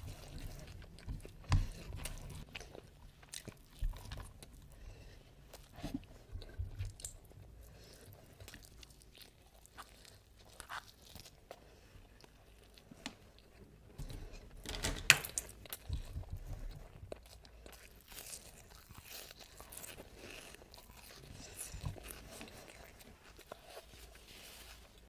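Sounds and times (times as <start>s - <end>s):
close chewing of rice and meat: 0.0s - 14.6s, 15.3s - 25.0s.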